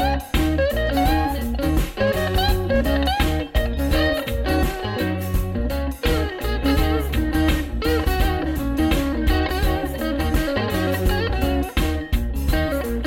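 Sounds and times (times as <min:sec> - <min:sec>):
guitar with bent notes: 0:00.0 - 0:13.0
low bass line: 0:00.0 - 0:13.0.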